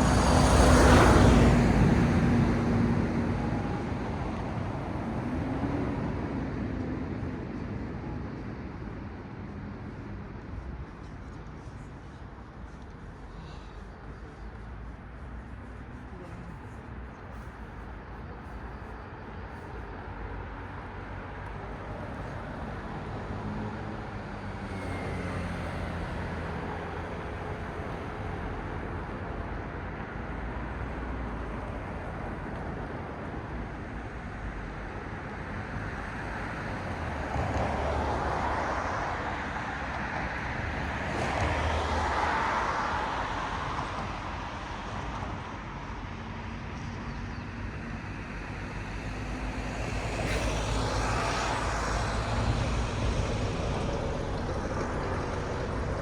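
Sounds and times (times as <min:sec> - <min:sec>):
cars passing close: 0:00.0 - 0:56.0
road traffic noise: 0:00.0 - 0:56.0.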